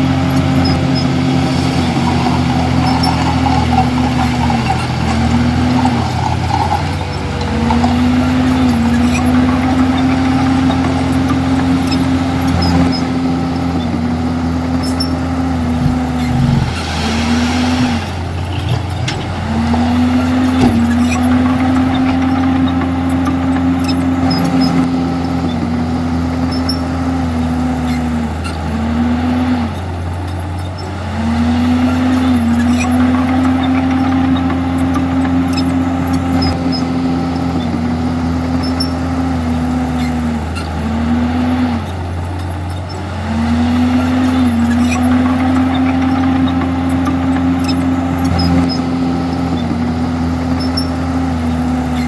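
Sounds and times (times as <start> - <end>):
bulldozer diesel engine under load: 0.0 - 52.0.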